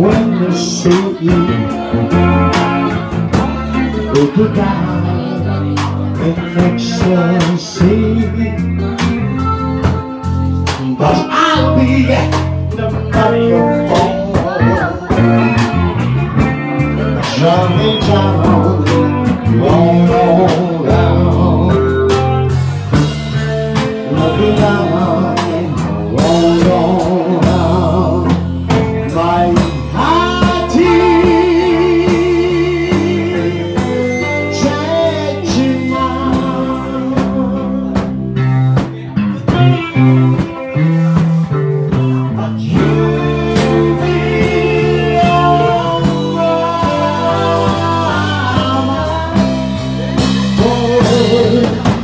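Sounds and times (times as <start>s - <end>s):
blues-rock band playing: 0.0s - 52.0s
person singing: 0.0s - 52.0s.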